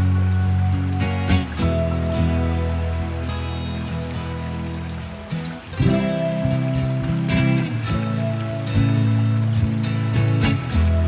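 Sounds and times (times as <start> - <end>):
instrumental music of held notes: 0.0 - 11.0.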